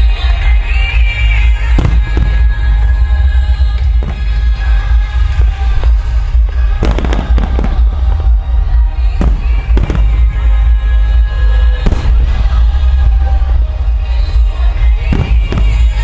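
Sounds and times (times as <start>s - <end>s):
music with heavy bass beat: 0.0s - 16.0s
fireworks booming: 1.4s - 16.0s.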